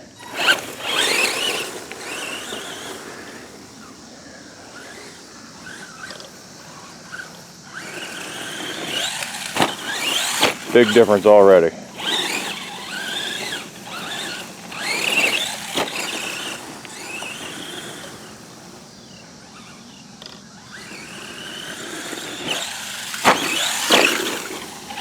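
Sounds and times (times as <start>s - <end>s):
electric motor and gears whining: 0.0s - 25.0s
tyre noise: 0.0s - 25.0s.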